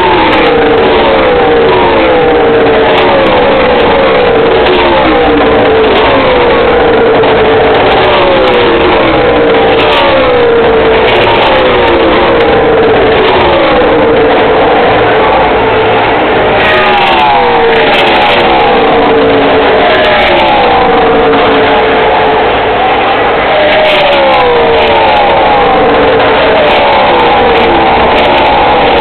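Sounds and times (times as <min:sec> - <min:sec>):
race cars passing at speed: 0:00.0 - 0:29.0.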